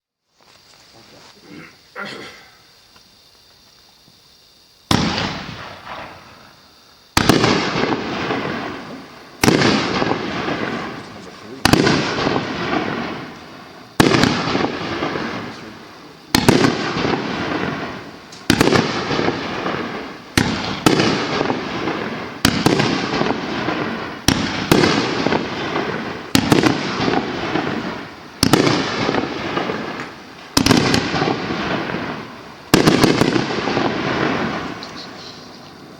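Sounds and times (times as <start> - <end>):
fireworks shots banging: 4.9 - 35.9.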